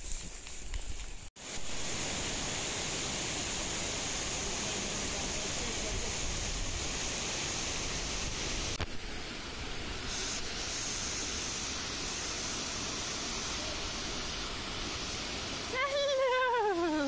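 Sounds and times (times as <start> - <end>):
waterfall rushing: 1.4 - 17.0.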